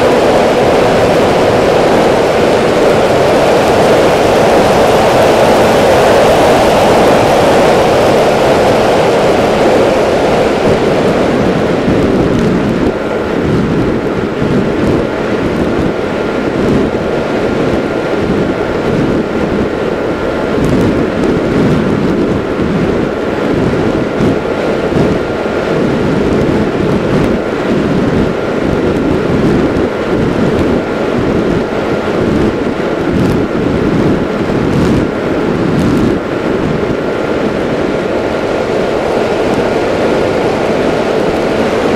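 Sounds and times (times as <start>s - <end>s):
electric motor and propeller whine: 0.0s - 41.9s
wind buffeting microphone: 0.0s - 41.9s.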